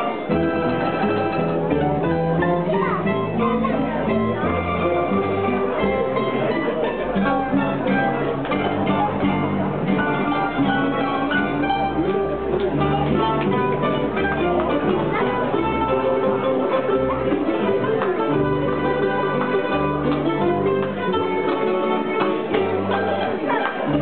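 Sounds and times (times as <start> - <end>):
mandolin ensemble playing: 0.0 - 24.0
string bass line: 0.0 - 24.0.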